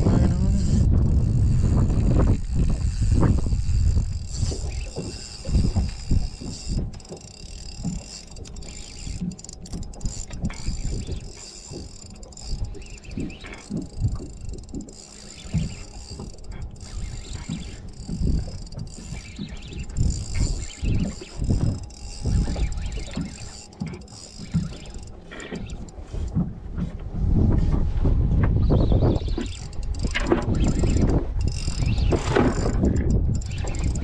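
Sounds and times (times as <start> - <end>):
fishing reel whirring and clicking: 0.0 - 26.5, 28.6 - 34.0
low buffeting: 0.0 - 34.0.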